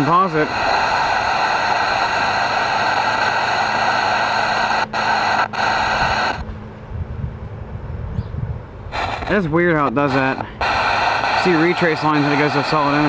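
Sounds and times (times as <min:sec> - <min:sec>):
tv static hiss: 0:00.0 - 0:06.5, 0:08.9 - 0:13.0.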